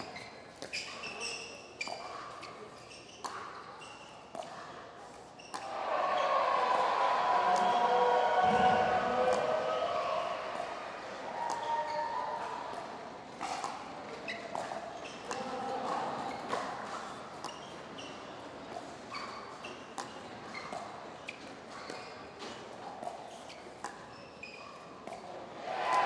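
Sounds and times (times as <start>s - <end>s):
court shoes squeaking: 0.0s - 6.5s, 8.4s - 25.4s
low crowd murmur: 0.0s - 23.9s, 24.8s - 26.0s.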